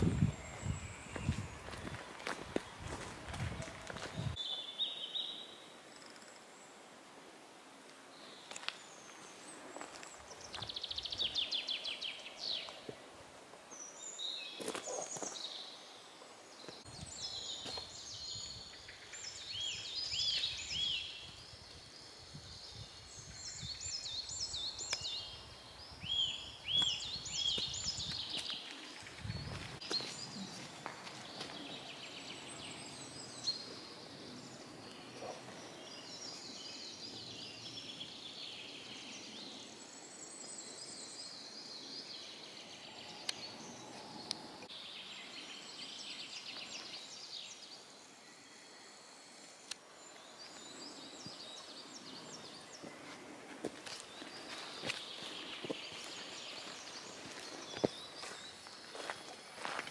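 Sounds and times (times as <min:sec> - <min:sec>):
songbirds singing: 0:00.0 - 0:07.0, 0:07.8 - 0:59.9.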